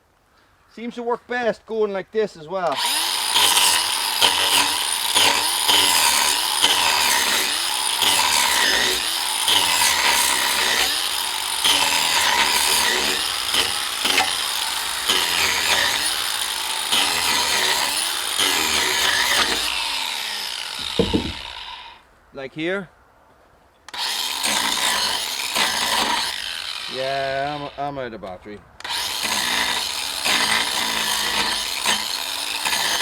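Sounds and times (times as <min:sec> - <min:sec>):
angle grinder cutting wood: 0:02.6 - 0:22.0, 0:23.9 - 0:28.0, 0:28.8 - 0:33.0.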